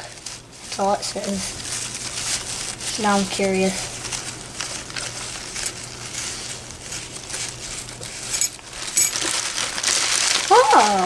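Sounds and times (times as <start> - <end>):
wrapping material crinkling: 0.0 - 11.0.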